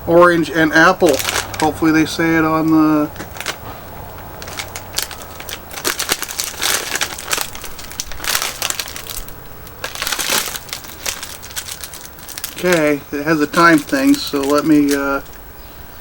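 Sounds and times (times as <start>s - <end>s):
plastic packaging crinkling: 0.8s - 15.4s.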